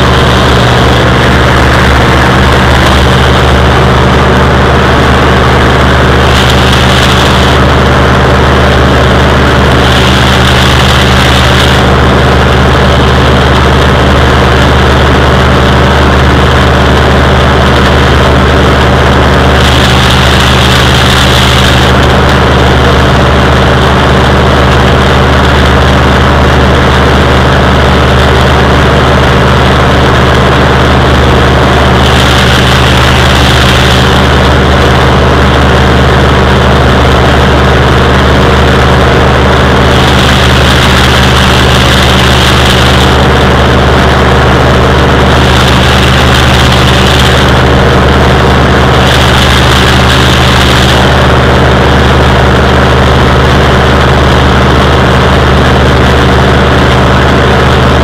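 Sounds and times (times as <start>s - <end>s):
stalk chopper shredding corn stalks: 0.0s - 58.0s
tractor engine under heavy load: 0.0s - 58.0s.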